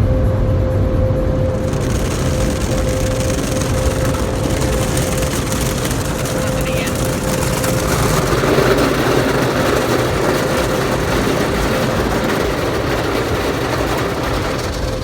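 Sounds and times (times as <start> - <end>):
car wash machinery rushing: 1.1 - 15.0.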